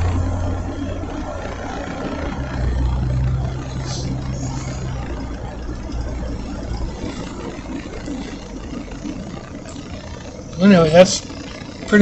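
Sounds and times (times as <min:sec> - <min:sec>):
engine and road noise: 0:00.0 - 0:12.0
low hum: 0:00.0 - 0:12.0.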